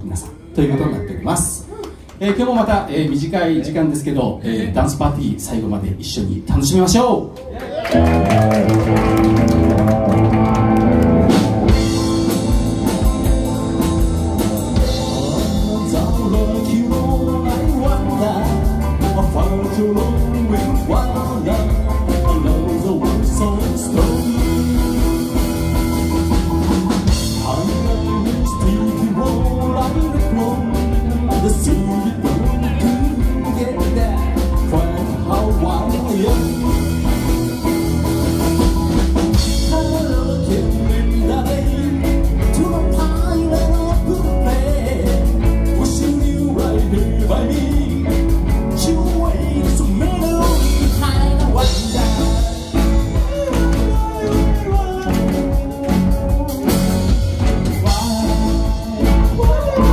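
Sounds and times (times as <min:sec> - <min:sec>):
live rock band playing: 0:07.8 - 0:59.9
man singing: 0:11.7 - 0:59.9.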